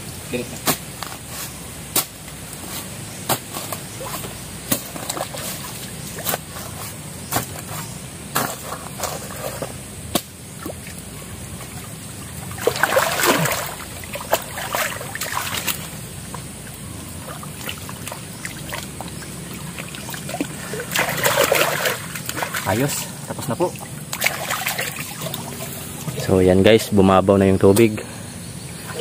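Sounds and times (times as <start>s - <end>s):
water sloshing and splashing: 2.0s - 26.6s, 28.8s - 29.0s.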